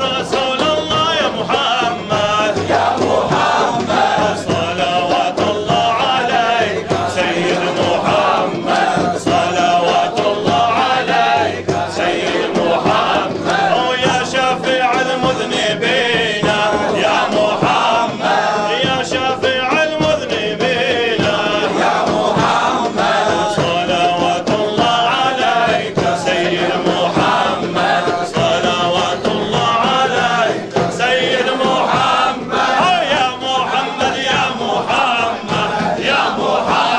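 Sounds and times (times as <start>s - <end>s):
men chanting through a microphone: 0.0s - 36.9s.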